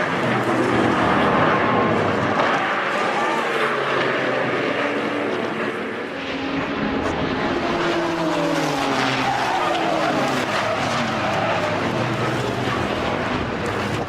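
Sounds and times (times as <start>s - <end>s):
race car engines at speed: 0.0s - 14.0s.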